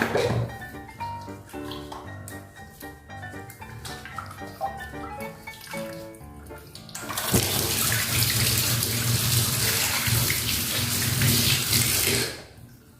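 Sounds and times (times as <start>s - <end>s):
music: 0.0s - 11.0s
water running from a tap: 0.2s - 12.9s.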